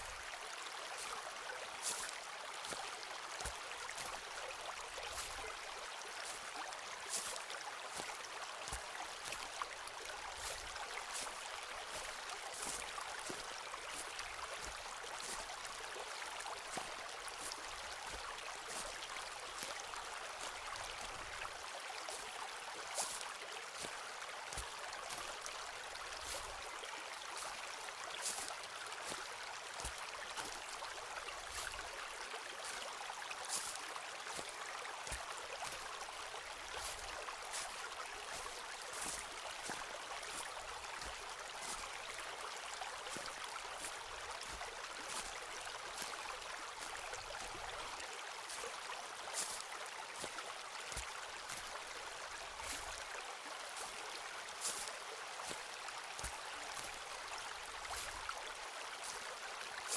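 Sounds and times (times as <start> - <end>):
stream running: 0.0 - 59.9.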